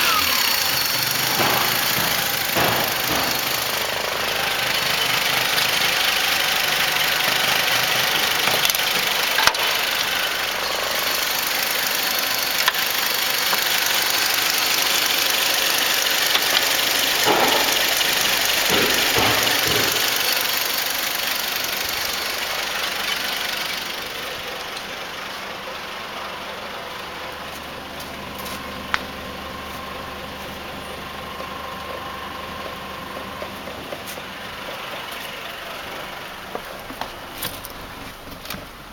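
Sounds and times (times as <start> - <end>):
petrol engine idling: 0.0 - 38.9.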